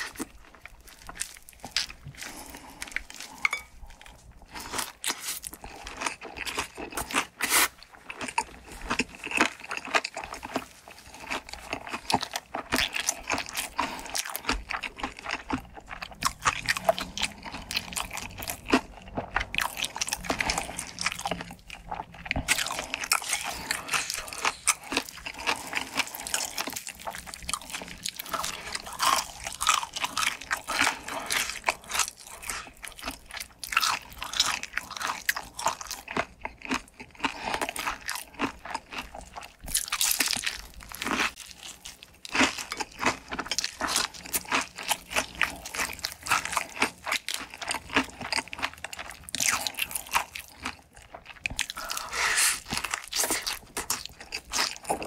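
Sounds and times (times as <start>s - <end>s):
crunchy bites and chewing: 0.0s - 55.0s.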